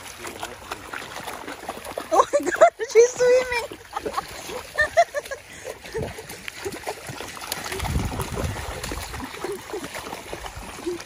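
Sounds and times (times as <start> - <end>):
dogs splashing in water: 0.0 - 11.0
water trickling over stones: 0.0 - 11.0.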